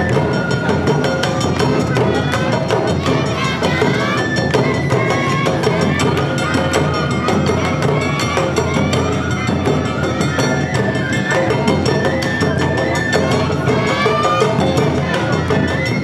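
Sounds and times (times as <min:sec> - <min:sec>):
bamboo flute melody: 0:00.0 - 0:16.0
drums: 0:00.0 - 0:16.0.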